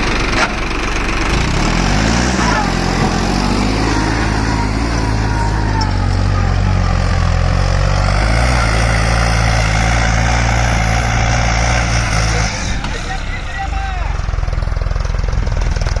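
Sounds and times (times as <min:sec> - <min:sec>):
tractor diesel engine running hard: 0:00.0 - 0:16.0.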